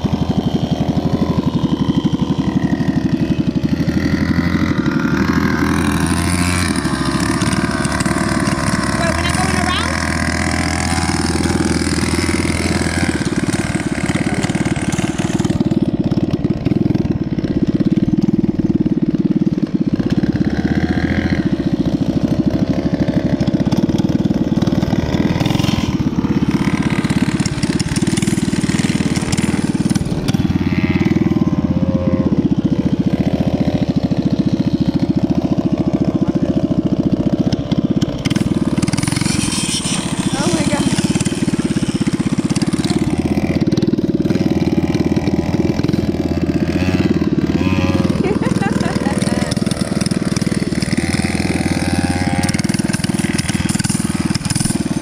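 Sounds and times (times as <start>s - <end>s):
small bike engine running: 0.0s - 55.0s.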